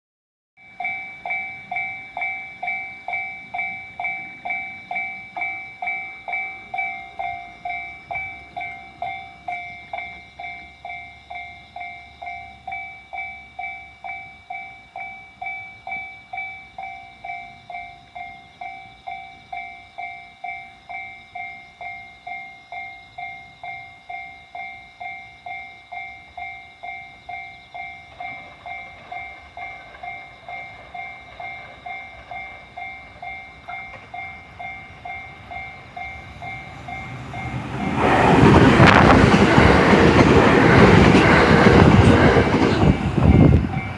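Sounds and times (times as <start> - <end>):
level crossing warning bell ringing: 0.6 - 43.9.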